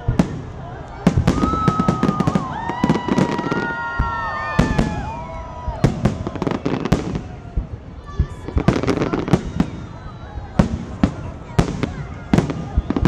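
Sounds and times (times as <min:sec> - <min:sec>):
fireworks bangs and crackling: 0:00.0 - 0:13.0
whistling fireworks: 0:00.0 - 0:13.0.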